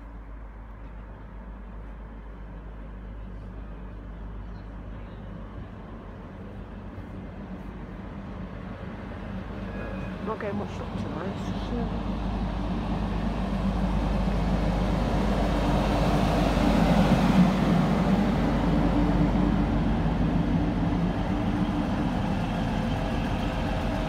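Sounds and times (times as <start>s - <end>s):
train diesel engines humming: 0.0s - 24.0s.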